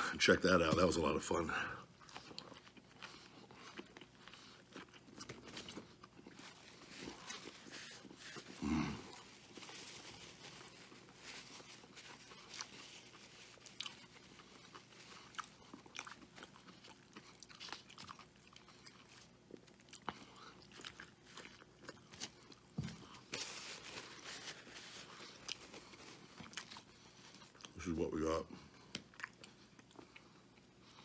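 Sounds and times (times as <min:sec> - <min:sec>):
man chewing food: 0:01.5 - 0:27.8, 0:28.5 - 0:31.0.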